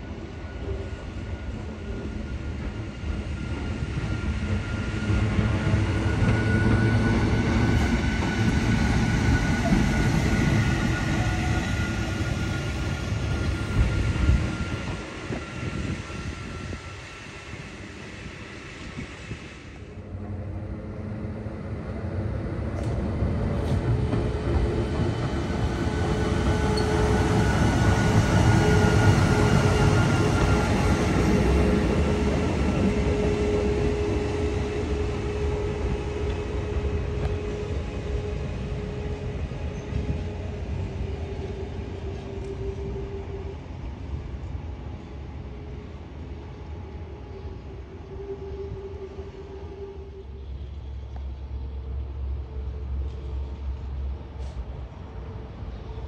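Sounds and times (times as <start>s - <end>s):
electric train passing: 0.0s - 56.0s.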